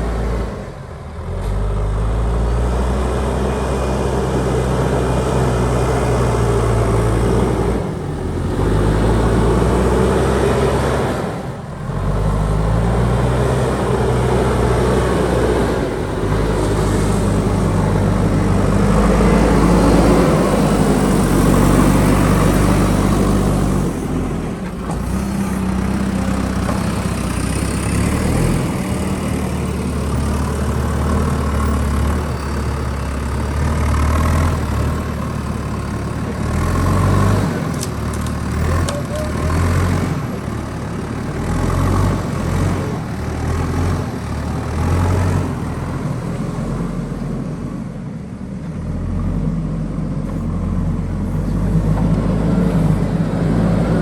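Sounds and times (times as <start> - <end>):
backhoe diesel engine working: 0.0 - 54.0.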